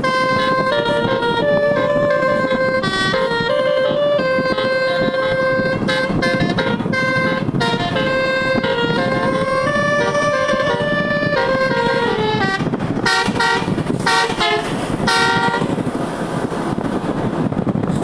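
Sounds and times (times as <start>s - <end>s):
tuned bus air horns playing: 0.0s - 15.9s
steady noisy rumble: 0.0s - 18.0s.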